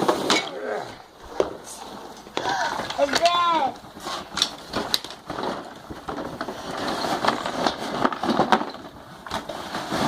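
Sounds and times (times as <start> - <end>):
packaging rustling and crackling: 1.2 - 10.0.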